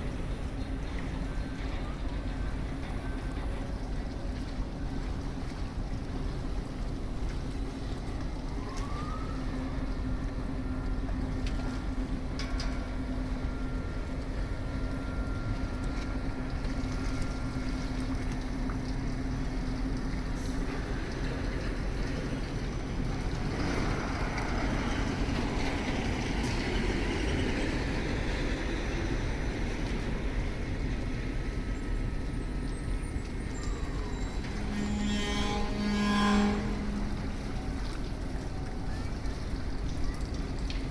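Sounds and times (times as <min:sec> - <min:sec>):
heavy machinery rumbling: 0:00.0 - 0:40.9.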